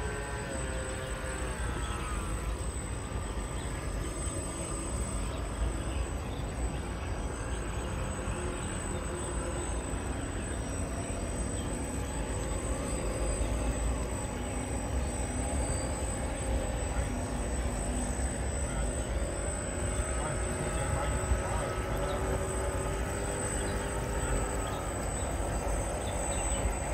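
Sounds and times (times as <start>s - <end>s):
model boat motors whining: 0.0s - 26.9s.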